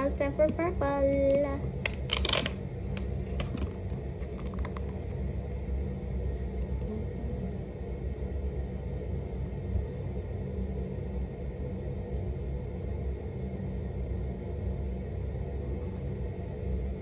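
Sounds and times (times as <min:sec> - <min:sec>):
faint background music: 0:00.0 - 0:17.0
steady low rumble: 0:00.0 - 0:17.0.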